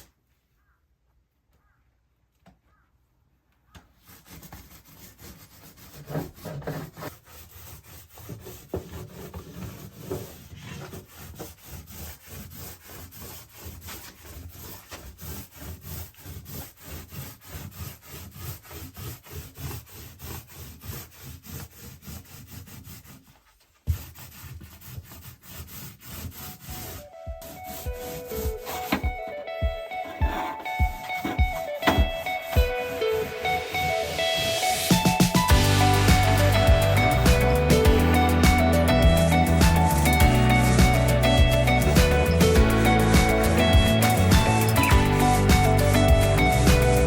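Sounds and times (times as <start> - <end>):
rapid rubbing strokes: 4.0 - 47.0.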